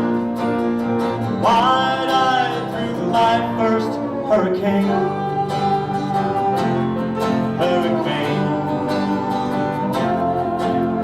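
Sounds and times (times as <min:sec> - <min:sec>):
country song singing: 0:00.0 - 0:11.0
plucked acoustic guitar: 0:00.0 - 0:11.0.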